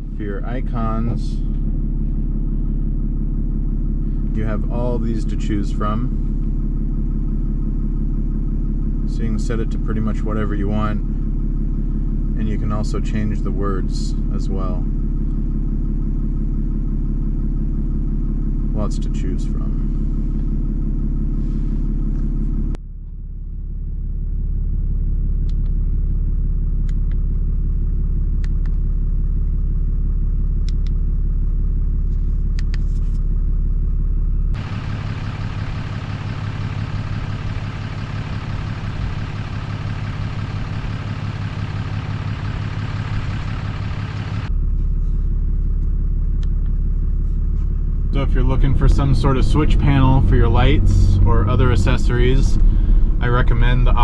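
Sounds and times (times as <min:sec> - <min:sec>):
pickup truck engine rumble: 0:00.0 - 0:54.0.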